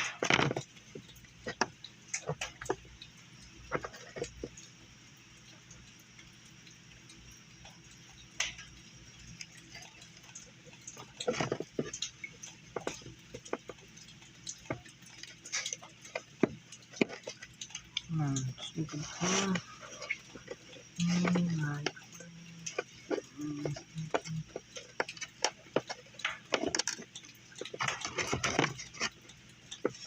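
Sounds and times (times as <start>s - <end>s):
small objects clicking and knocking: 0.0s - 4.9s, 5.5s - 30.0s.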